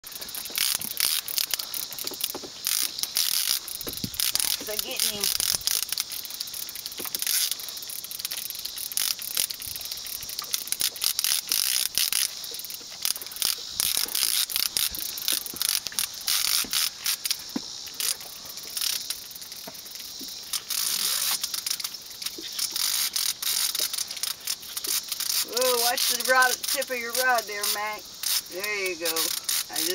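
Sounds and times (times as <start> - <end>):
fishing reel clicking: 0.1 - 29.9.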